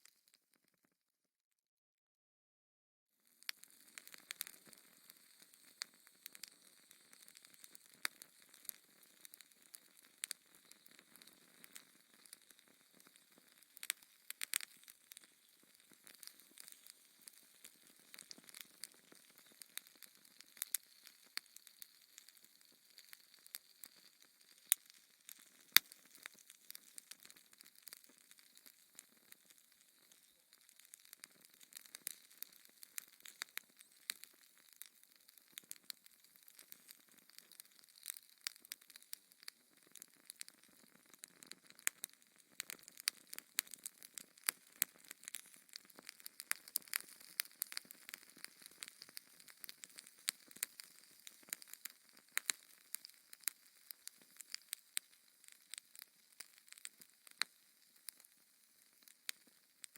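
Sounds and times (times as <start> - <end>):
faint fire hiss: 3.3 - 59.9
fire crackling and popping: 3.3 - 59.9.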